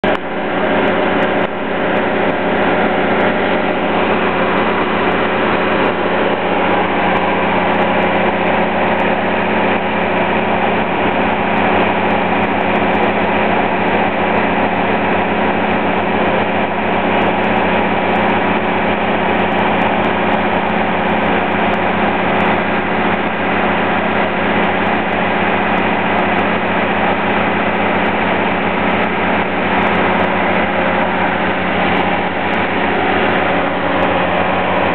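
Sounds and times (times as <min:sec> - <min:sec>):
fire truck engine running: 0:00.0 - 0:34.9
low pulsing: 0:00.0 - 0:34.9.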